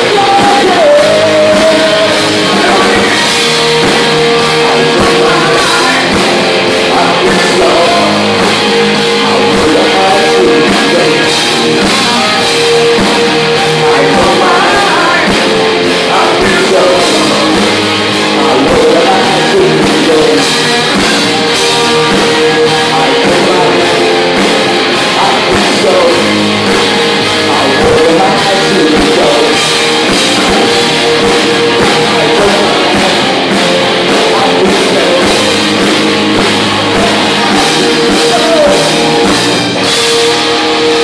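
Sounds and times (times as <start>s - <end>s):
drum and cymbal hits: 0.0s - 41.0s
live rock band playing: 0.0s - 41.0s
man singing: 0.0s - 41.0s.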